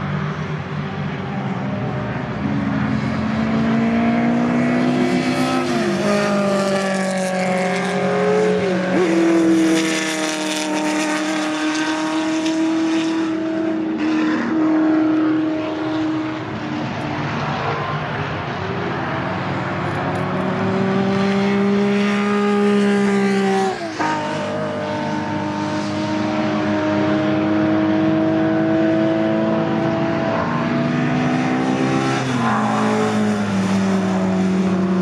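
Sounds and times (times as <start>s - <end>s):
racing cars driving past: 0.0s - 35.0s
engine passing close by: 1.3s - 35.0s.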